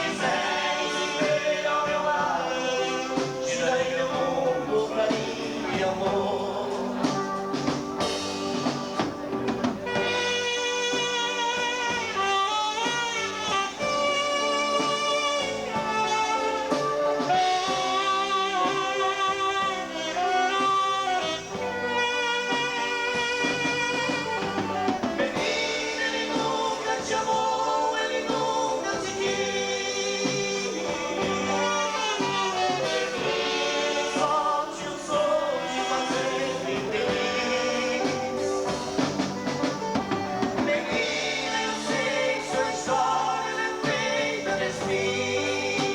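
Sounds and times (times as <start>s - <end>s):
person singing: 0.0s - 8.8s, 9.9s - 45.9s
live dance band playing: 0.0s - 45.9s.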